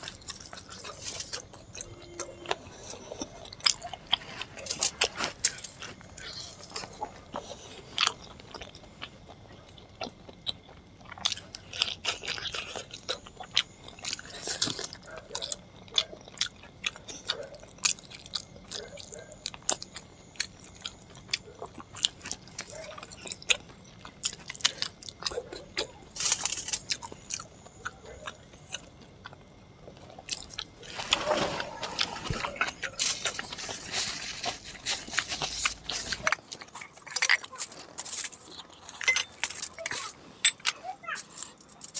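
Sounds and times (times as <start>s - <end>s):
chewing and lip-smacking: 0.0s - 40.0s.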